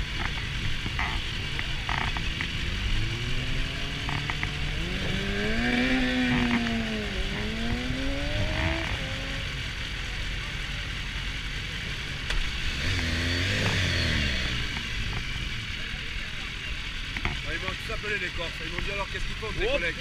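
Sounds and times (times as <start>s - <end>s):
motorcycle engine idling: 0.0s - 13.2s, 13.8s - 20.0s
motorcycle engine revving: 0.0s - 20.0s.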